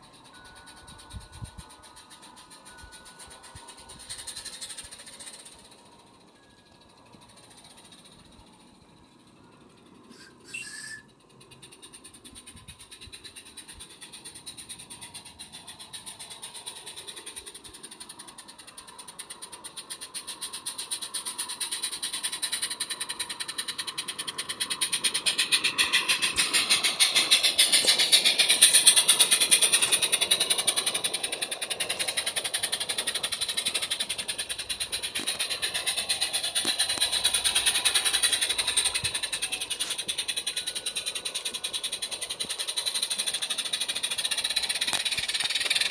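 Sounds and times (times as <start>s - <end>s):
steam hiss: 0.0s - 45.9s
steam locomotive chuffing: 0.0s - 45.9s.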